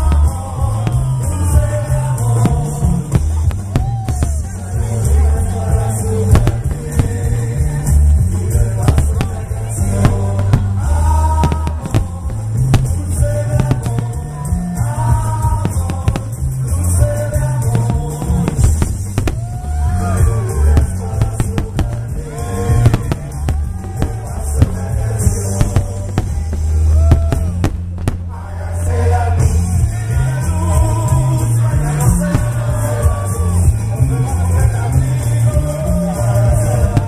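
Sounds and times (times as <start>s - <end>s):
fireworks exploding: 0.0s - 34.0s, 36.2s - 37.0s
loud rock music with singing: 0.0s - 37.0s.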